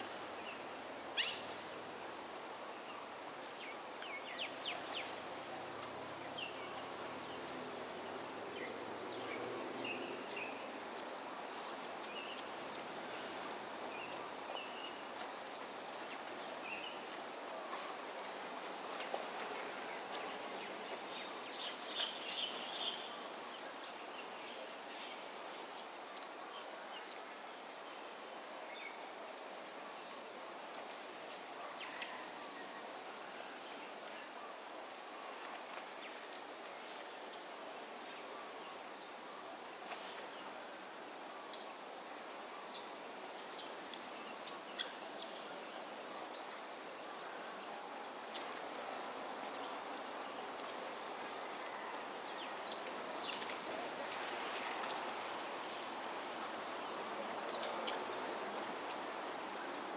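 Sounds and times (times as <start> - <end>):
background hiss: 0.0 - 59.9
insect chorus: 0.0 - 59.9.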